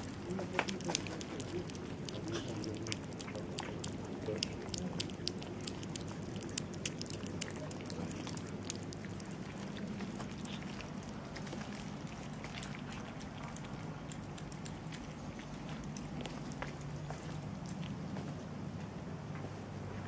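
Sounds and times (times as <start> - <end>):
cats chewing and lapping food: 0.0 - 20.0
low background rumble: 0.0 - 20.0.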